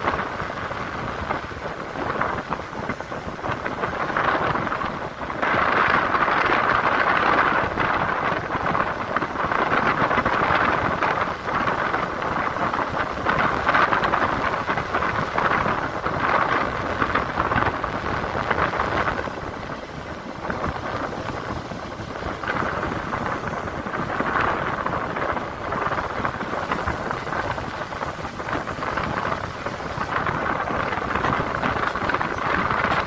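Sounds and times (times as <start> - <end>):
sea waves washing on beach: 0.0 - 33.0.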